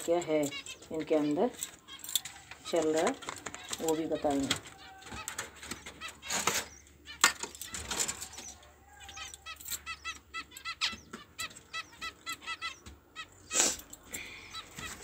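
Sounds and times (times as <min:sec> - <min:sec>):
cage birds chirping: 0:00.0 - 0:15.0.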